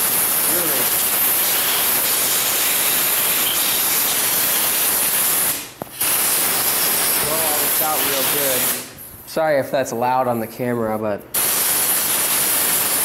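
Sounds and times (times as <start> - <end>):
compressed air blow gun hiss: 0.0 - 9.0, 11.4 - 13.0.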